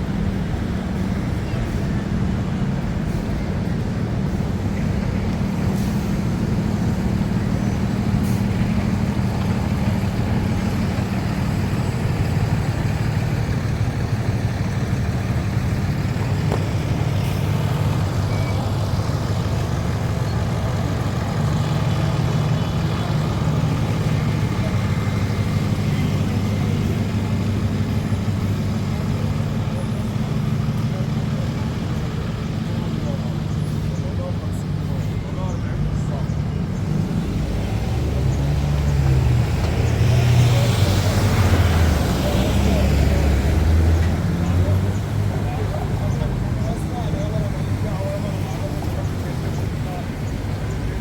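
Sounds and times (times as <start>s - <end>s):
city traffic rumble: 0.0s - 51.0s.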